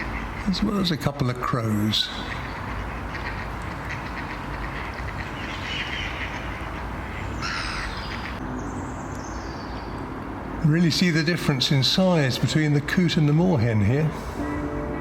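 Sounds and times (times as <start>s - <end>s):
waterbirds calling: 0.0s - 15.0s.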